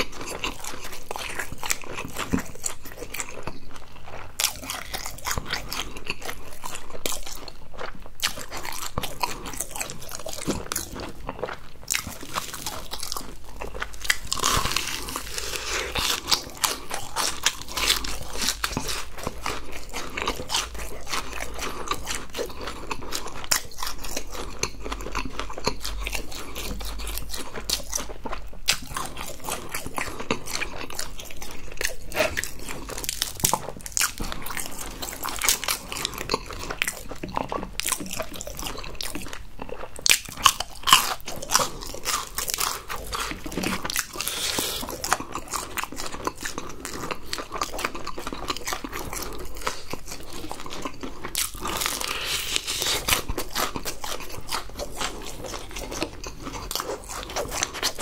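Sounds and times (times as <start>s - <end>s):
chewing crunchy fried food: 0.0s - 58.0s.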